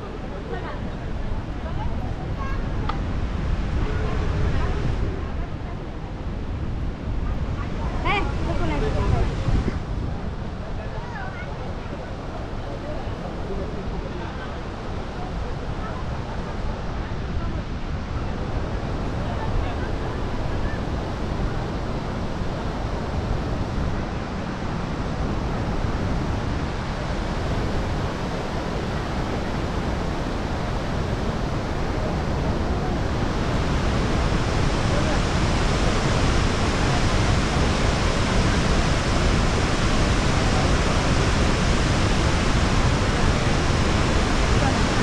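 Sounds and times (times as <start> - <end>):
waterfall roaring: 0.0 - 6.2, 7.5 - 45.0.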